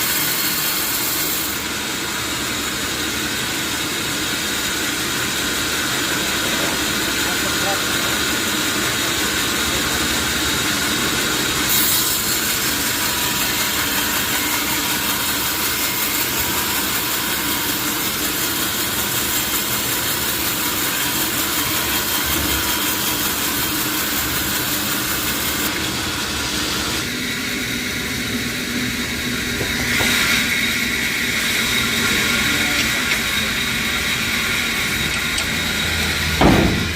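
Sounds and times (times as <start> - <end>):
sawmill saw cutting wood: 0.0 - 36.9.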